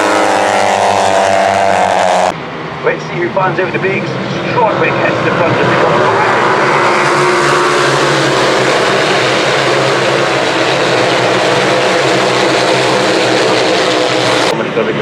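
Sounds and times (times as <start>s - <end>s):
superbike engines at high revs: 0.0s - 2.4s, 4.0s - 14.5s.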